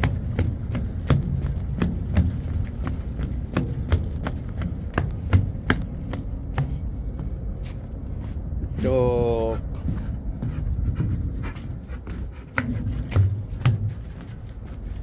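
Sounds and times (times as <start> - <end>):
footsteps on concrete: 0.0 - 15.0
steady low rumble: 0.0 - 15.0.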